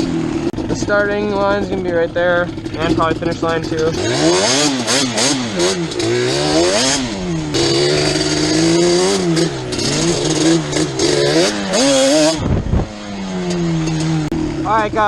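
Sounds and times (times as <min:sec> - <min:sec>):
two-stroke quad engine revving: 0:00.0 - 0:15.0.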